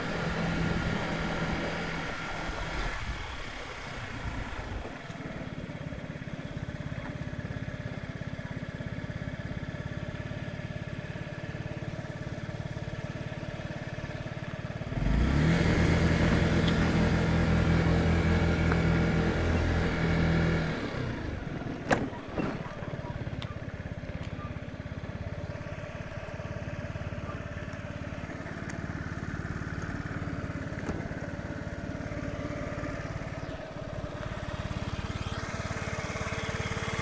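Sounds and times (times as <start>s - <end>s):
scooter engine: 0.0s - 37.0s.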